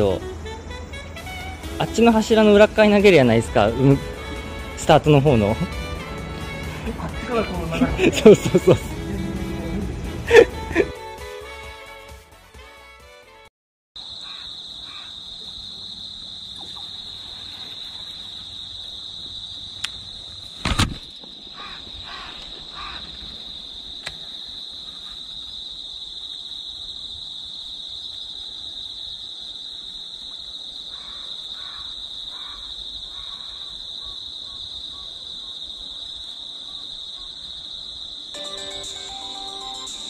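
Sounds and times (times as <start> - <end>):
crickets trilling: 0.0 - 9.5, 14.0 - 40.0.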